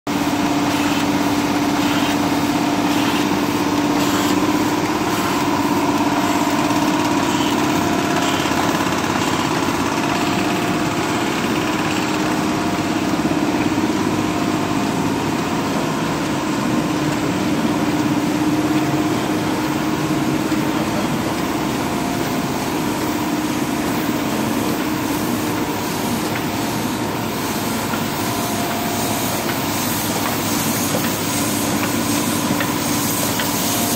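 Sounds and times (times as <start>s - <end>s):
printing press running: 0.1s - 33.9s.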